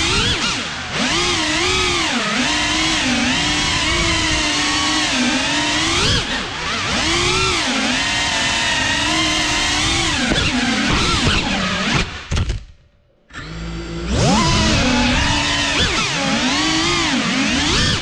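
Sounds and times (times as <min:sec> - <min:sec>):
drone motors whining: 0:00.0 - 0:12.6, 0:13.3 - 0:18.0.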